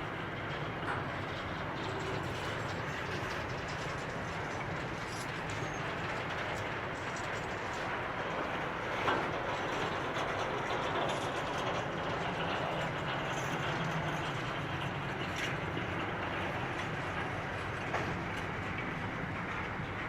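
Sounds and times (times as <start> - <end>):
freight train wagons rumbling: 0.0 - 20.0.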